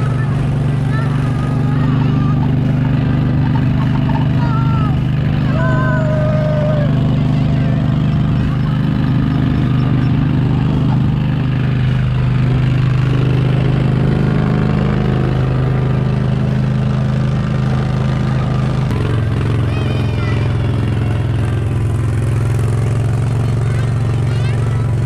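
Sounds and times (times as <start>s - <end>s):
utility vehicle engine humming: 0.0s - 25.0s.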